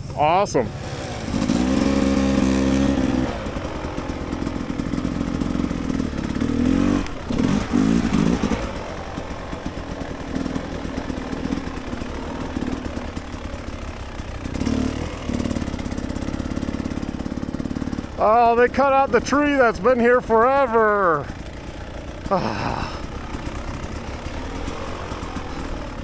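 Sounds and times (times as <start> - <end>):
clatter: 0.0 - 26.0
dirt bike engine revving: 0.0 - 26.0.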